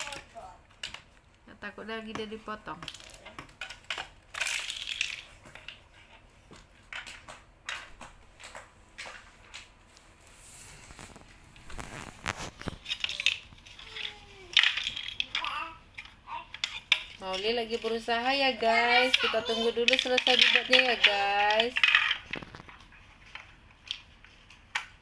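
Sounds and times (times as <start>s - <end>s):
plastic toys clattering: 0.0s - 9.8s, 10.8s - 25.0s.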